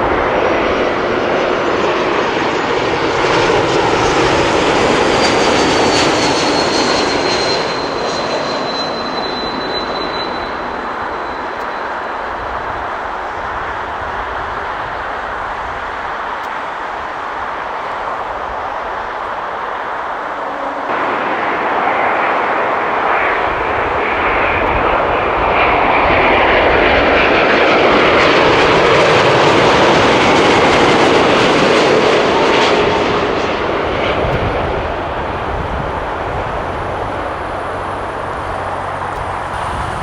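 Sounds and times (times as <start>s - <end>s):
falling engine whine: 0.0s - 40.0s
jet airliner flying past: 0.0s - 40.0s.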